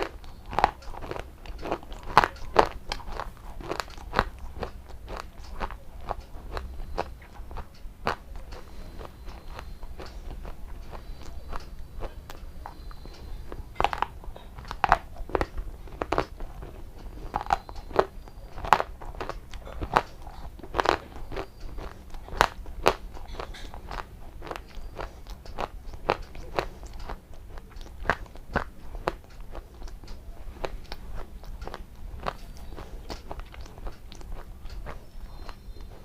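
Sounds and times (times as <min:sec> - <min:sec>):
crunchy chewing: 0:00.0 - 0:36.0
low steady hum: 0:00.0 - 0:36.0.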